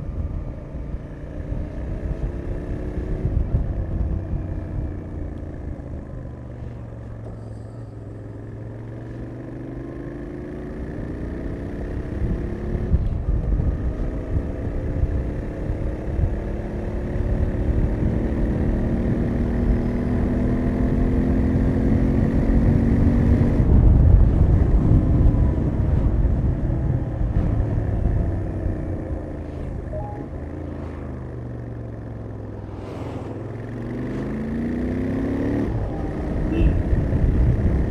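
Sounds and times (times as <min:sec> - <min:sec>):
motorcycle engine accelerating: 0:00.0 - 0:07.3, 0:08.0 - 0:37.9.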